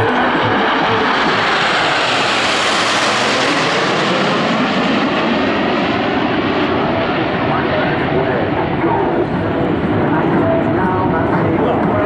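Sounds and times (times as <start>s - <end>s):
jets passing overhead: 0.0s - 12.0s.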